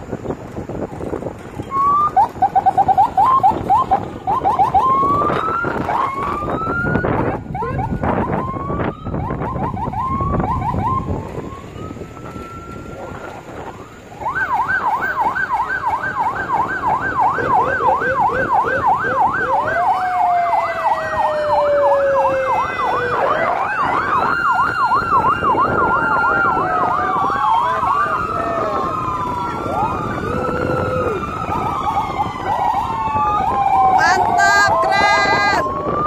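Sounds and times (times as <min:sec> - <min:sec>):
vehicles running: 0:00.0 - 0:36.0
siren wails: 0:01.6 - 0:36.0
siren fast yelp: 0:01.7 - 0:36.0.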